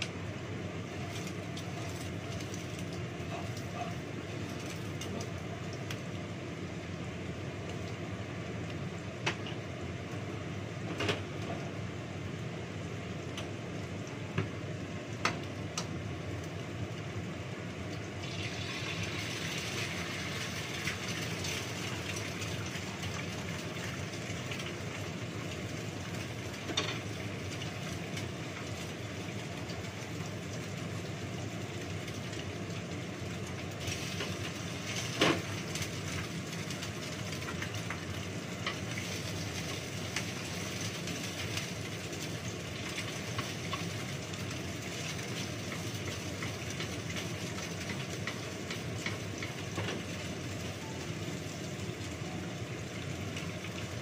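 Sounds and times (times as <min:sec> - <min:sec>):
kitchen exhaust fan hum: 0:00.0 - 0:54.0
oil sizzling in a frying pan: 0:00.0 - 0:54.0.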